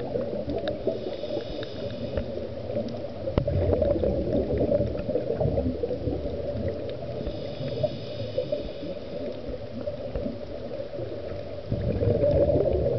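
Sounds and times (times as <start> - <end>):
faint crackles: 0.0 - 12.9
underwater low rumble: 0.0 - 12.9.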